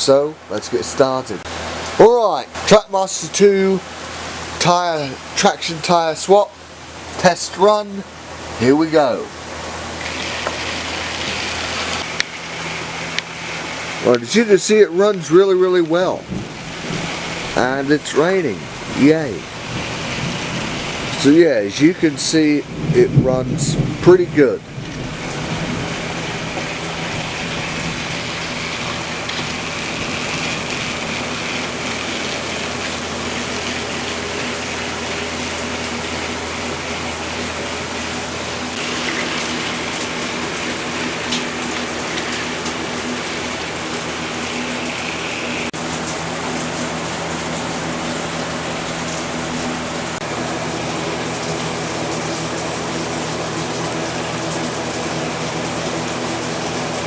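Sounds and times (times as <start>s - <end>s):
rain on a shed roof: 0.0s - 57.0s.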